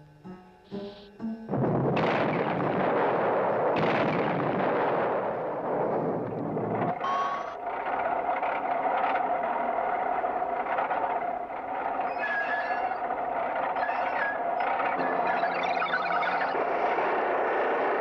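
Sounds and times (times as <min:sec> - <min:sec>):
steady hum with held tone: 0:00.0 - 0:18.0
cartoon brick wall crash: 0:01.5 - 0:18.0.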